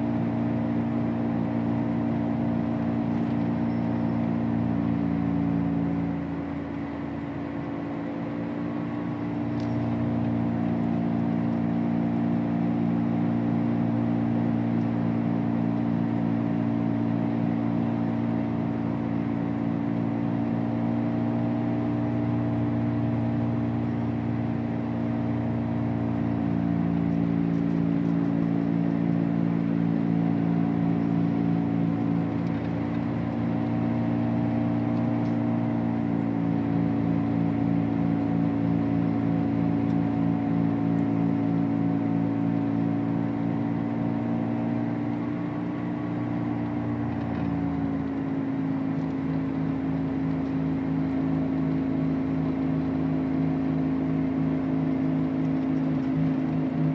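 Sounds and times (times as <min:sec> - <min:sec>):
droning hum with whir: 0:00.0 - 0:56.9
road noise: 0:00.0 - 0:56.9.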